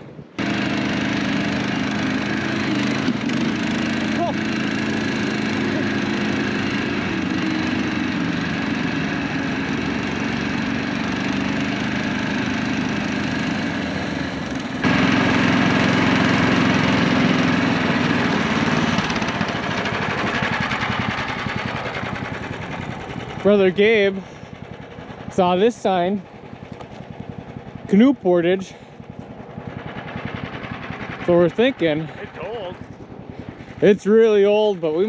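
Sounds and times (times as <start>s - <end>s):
snow machine engine running: 0.4s - 35.0s.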